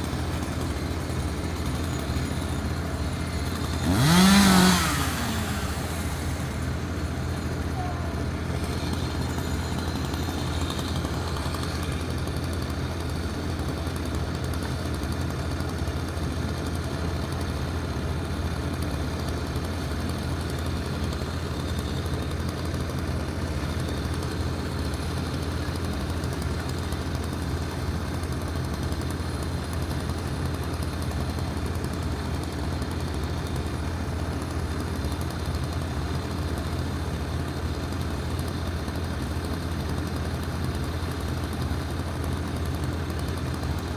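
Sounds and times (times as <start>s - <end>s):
heavy engine running: 0.0s - 43.9s.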